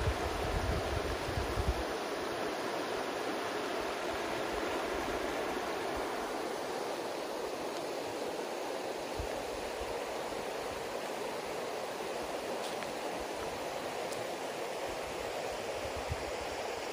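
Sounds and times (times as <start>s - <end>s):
river rushing over stones: 0.0s - 16.9s.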